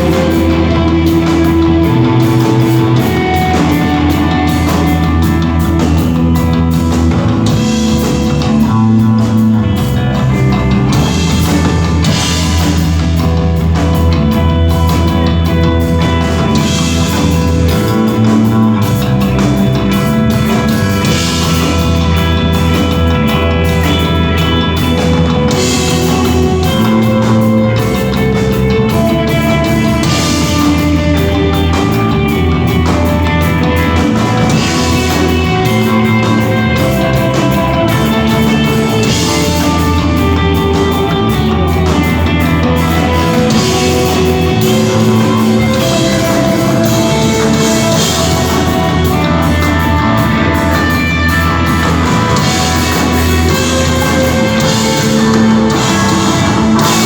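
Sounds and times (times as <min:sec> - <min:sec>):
rock band playing slow piece: 0:00.0 - 0:57.0.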